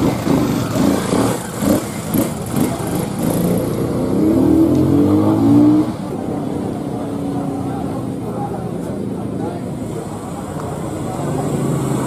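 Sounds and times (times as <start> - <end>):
motorcycle engine revving: 0.0 - 8.2, 10.0 - 12.0
street noise: 0.0 - 12.0.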